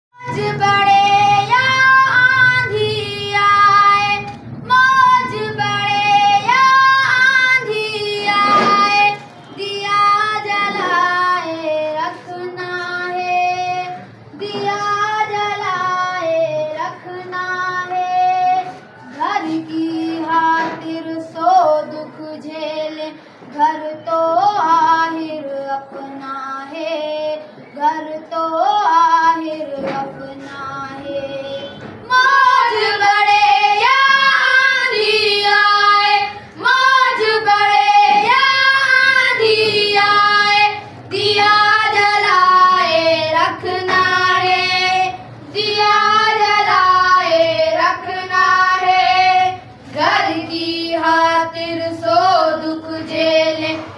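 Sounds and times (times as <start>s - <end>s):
boys singing together: 0.2s - 53.9s.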